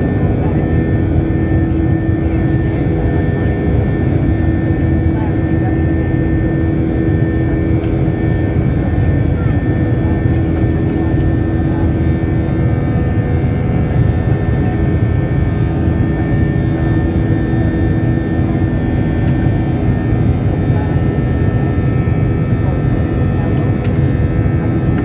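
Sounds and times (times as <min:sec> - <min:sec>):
airliner engines rumbling: 0:00.0 - 0:25.0.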